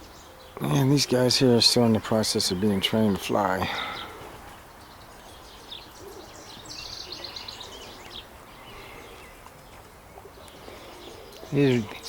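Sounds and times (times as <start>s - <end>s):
outdoor background noise: 0.0s - 12.0s
songbird trilling: 0.0s - 12.0s.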